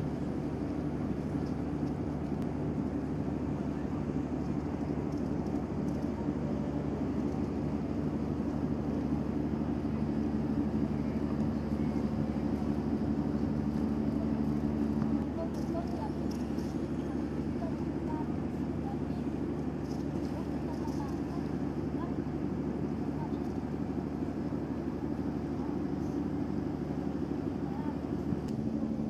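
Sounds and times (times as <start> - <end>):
ship engines droning: 0.0 - 29.0.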